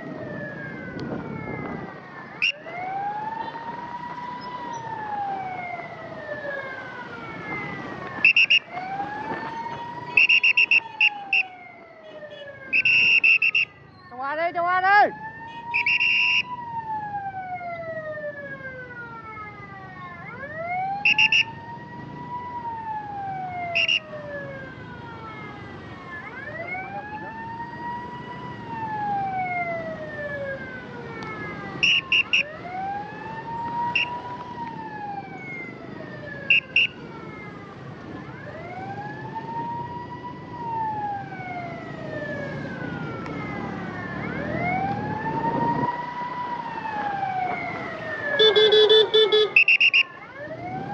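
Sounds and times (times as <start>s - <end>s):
ambulance siren wailing: 0.0s - 50.9s
traffic rumble: 0.0s - 50.9s.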